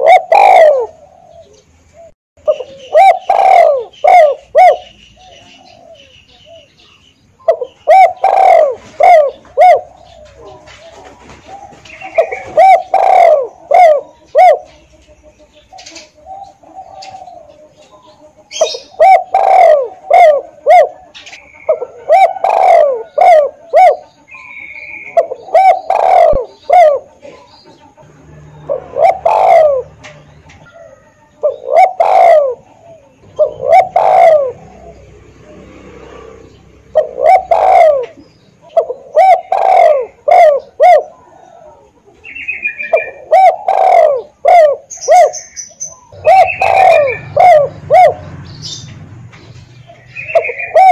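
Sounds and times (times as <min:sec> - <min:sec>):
dove cooing: 0:00.0 - 0:48.9, 0:49.8 - 0:50.9
small birds chirping: 0:00.0 - 0:50.9.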